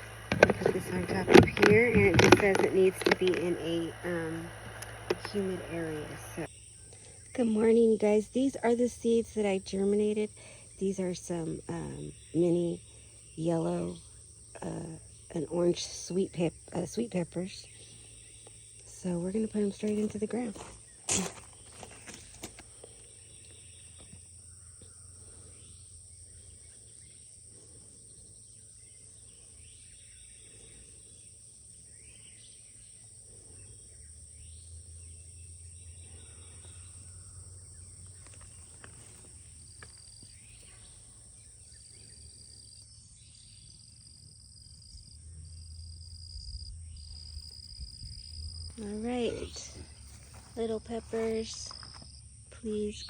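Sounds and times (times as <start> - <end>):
birds chirping: 0.0 - 53.0
high-pitched insect chorus: 0.0 - 53.0.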